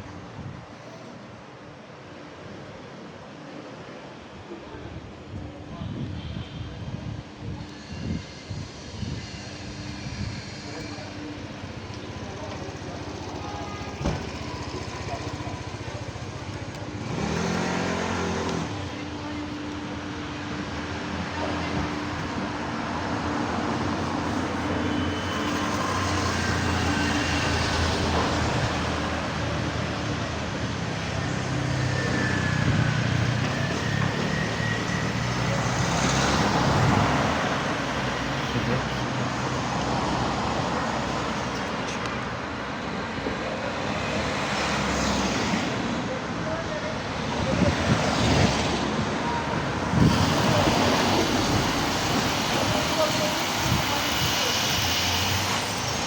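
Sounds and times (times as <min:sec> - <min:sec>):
traffic noise: 0:00.0 - 0:56.0
faint indistinct voices: 0:00.4 - 0:56.0
passing cars rumbling: 0:08.0 - 0:56.0.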